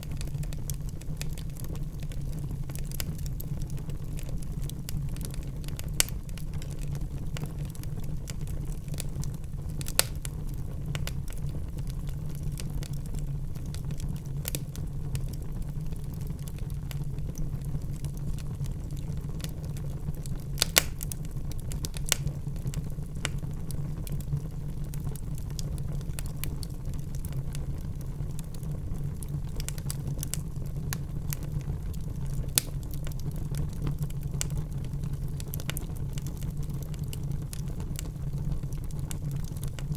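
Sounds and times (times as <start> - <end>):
fire rumbling: 0.0 - 39.9
wood fire crackling and popping: 0.0 - 39.9.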